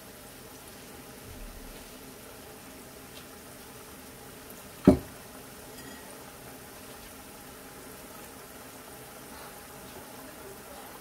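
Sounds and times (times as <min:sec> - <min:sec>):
hot oil bubbling in wok: 0:00.0 - 0:11.0.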